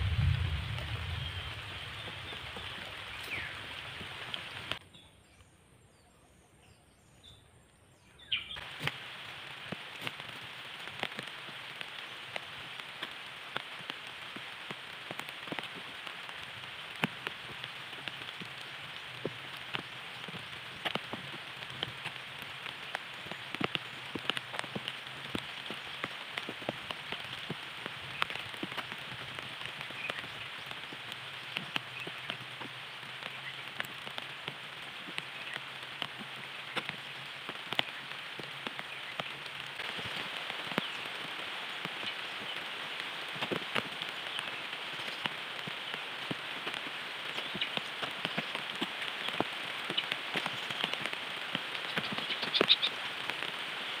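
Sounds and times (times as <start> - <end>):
raindrops ticking: 0.0 - 4.8, 8.5 - 54.0
rain hissing on foliage: 0.0 - 5.5, 7.0 - 54.0.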